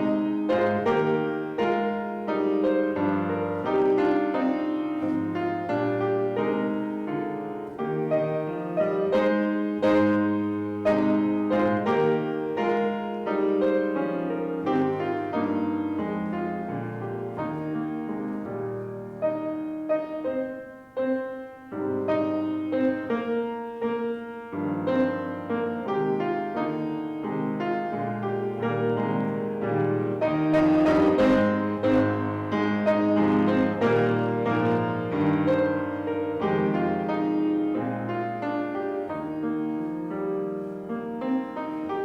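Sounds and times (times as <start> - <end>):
solo piano playing chords: 0.0 - 42.0.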